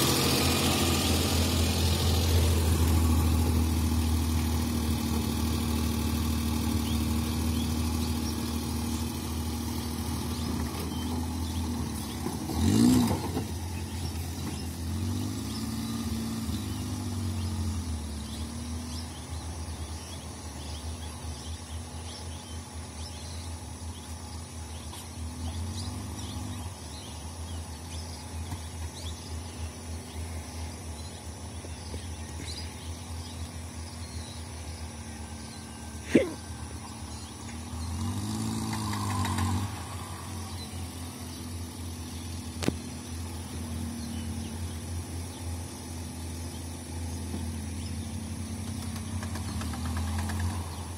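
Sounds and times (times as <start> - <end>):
car engine pulling away: 0.0 - 50.9.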